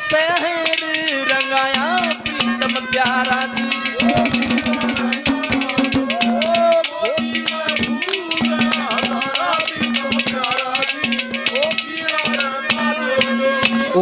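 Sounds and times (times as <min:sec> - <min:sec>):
hand drum strokes: 0:00.0 - 0:14.0
harmonium playing: 0:00.0 - 0:14.0.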